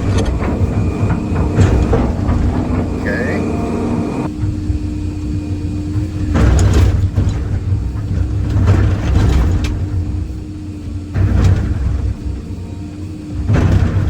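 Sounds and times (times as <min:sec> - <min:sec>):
excavator engine running: 0:00.0 - 0:14.0
hydraulic whine: 0:00.0 - 0:14.0.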